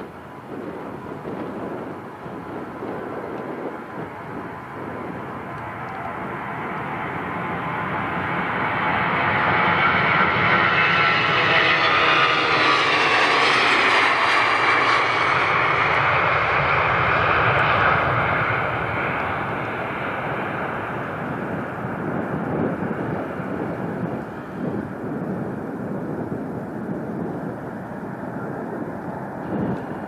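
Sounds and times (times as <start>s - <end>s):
jet airliner engines passing: 0.0s - 30.0s.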